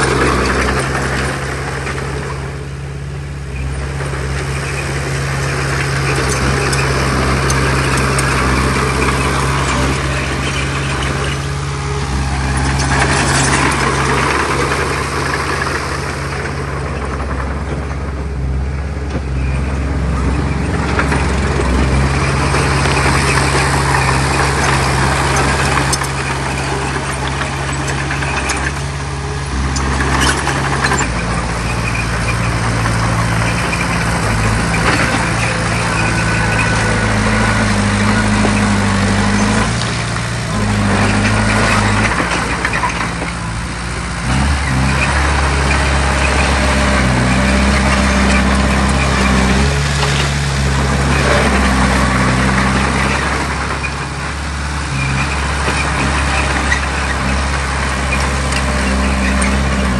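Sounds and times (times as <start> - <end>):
clattering grinding machinery: 0.0 - 59.9
diesel engine hum: 0.0 - 59.9.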